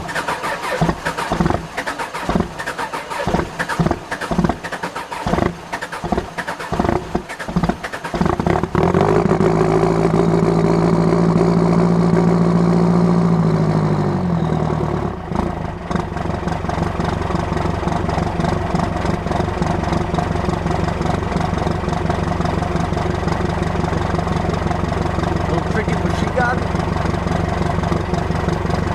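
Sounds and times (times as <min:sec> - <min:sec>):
diesel engine starting and idling: 0:00.0 - 0:28.9.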